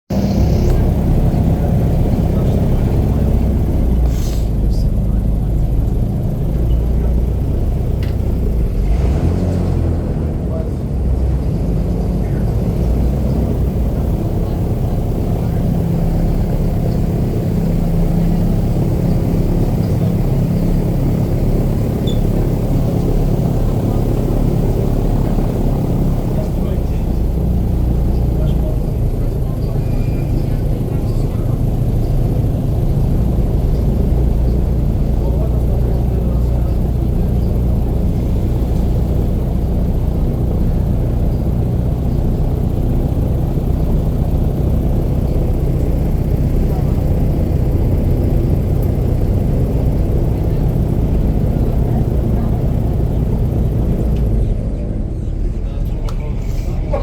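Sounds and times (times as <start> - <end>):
airboat engine and propeller drone: 0.1 - 57.0.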